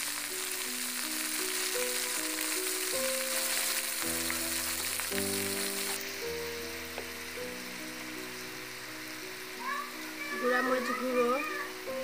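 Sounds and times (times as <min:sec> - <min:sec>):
background music: 0:00.0 - 0:12.0
paste sizzling in hot oil: 0:00.0 - 0:12.0.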